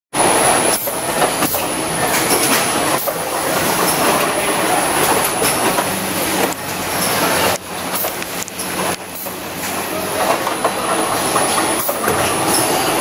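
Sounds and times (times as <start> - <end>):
conveyors and robot arms clattering: 0.2 - 13.0.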